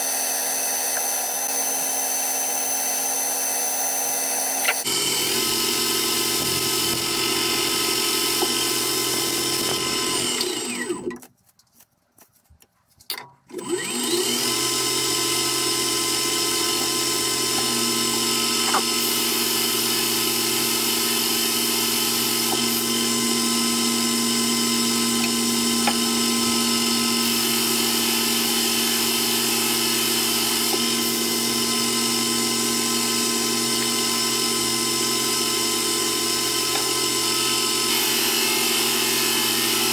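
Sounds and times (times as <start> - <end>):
lathe motor and gear whine: 0.0 - 11.2, 13.5 - 39.9.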